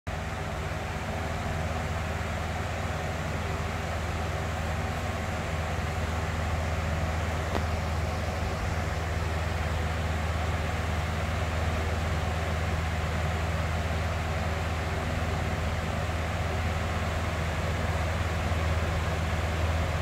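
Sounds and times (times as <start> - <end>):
box fan humming: 0.1 - 20.0.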